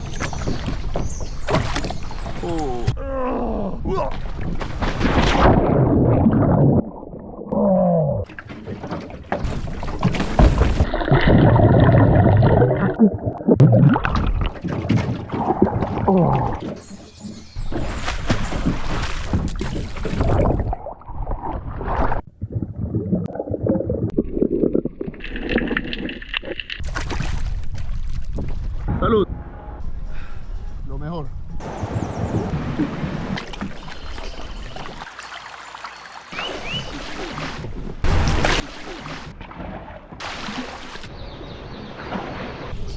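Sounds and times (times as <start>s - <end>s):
water gurgling and splashing: 4.1s - 28.6s, 31.7s - 42.9s.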